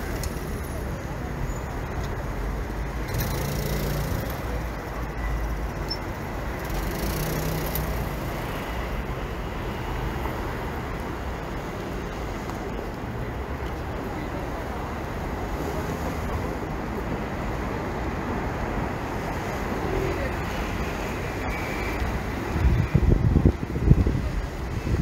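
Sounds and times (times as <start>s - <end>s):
city street traffic: 0.0s - 25.0s
vehicles passing: 0.0s - 25.0s.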